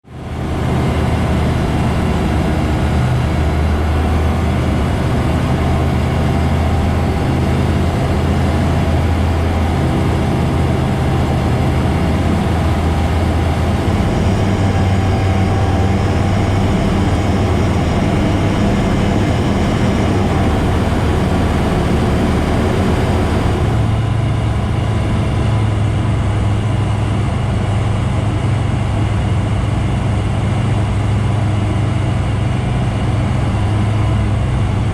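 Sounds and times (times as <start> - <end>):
light aircraft engine drone: 0.1 - 34.9.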